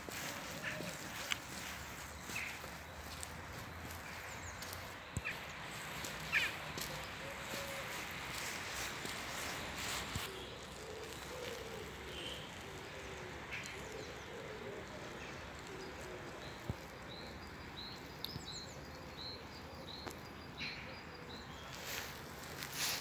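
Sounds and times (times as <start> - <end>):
steady outdoor background hum: 0.0 - 23.0.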